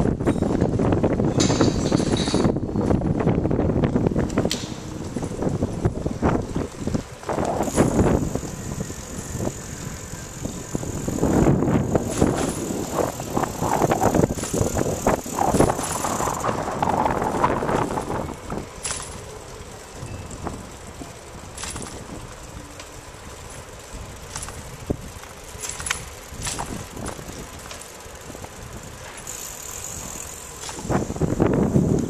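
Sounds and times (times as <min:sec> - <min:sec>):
bicycle rattling over rough street: 0:00.0 - 0:32.0.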